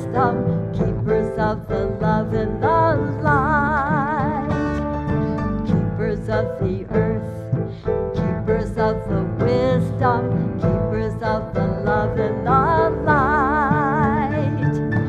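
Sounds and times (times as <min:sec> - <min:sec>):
woman's wordless singing: 0:00.0 - 0:15.0.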